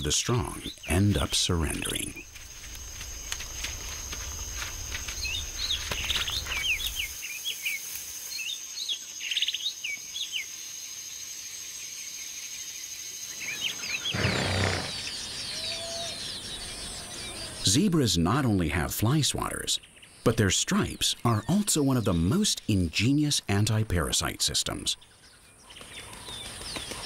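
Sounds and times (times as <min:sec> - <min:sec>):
birds chirping: 0:00.0 - 0:10.5, 0:12.5 - 0:27.0.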